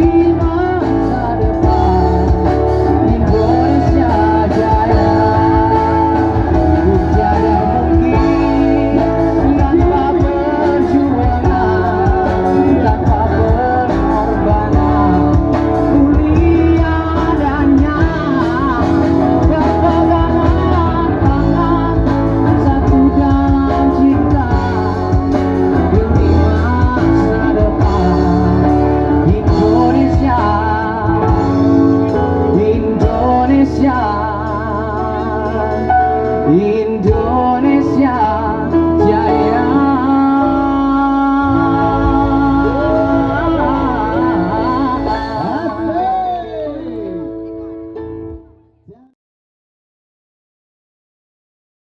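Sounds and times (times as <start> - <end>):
steady bass line: 0.0 - 48.5
guitar: 0.0 - 49.0
person singing: 0.0 - 49.2.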